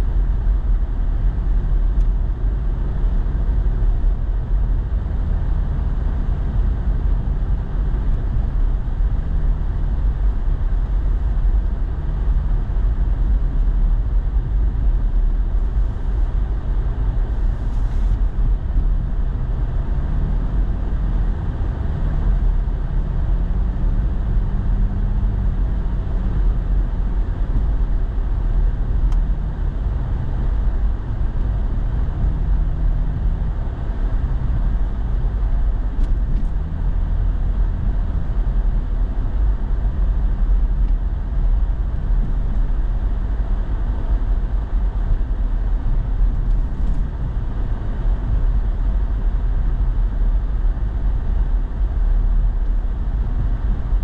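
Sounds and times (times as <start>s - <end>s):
faint engine hum: 0.0s - 54.0s
truck engine and road noise: 0.0s - 54.0s.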